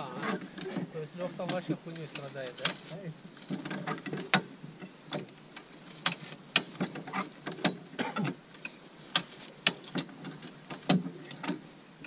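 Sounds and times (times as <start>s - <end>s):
sharp clicks and knocks: 0.2s - 11.7s.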